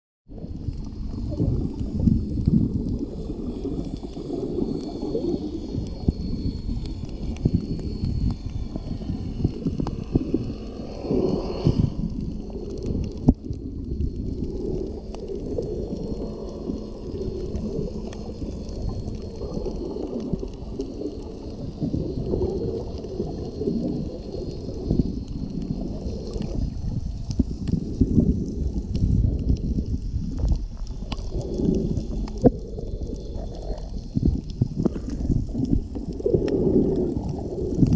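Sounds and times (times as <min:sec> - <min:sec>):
underwater surging water rumble: 0:00.3 - 0:37.9
faint clicks: 0:00.7 - 0:37.9.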